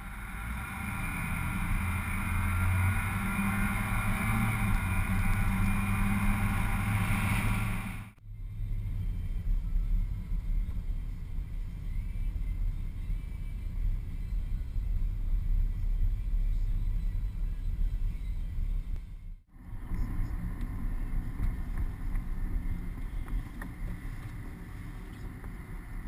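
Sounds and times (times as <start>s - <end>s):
engine and wind drone: 0.0s - 26.0s
road noise inside car cabin: 0.0s - 26.0s.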